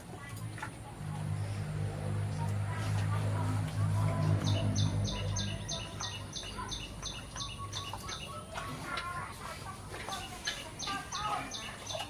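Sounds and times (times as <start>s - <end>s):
chickens clucking: 0.1s - 12.0s.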